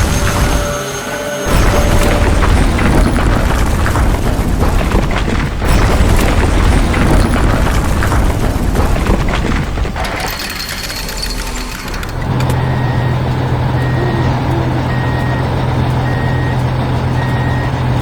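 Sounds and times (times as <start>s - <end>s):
rumbling and booming: 0.0s - 18.0s.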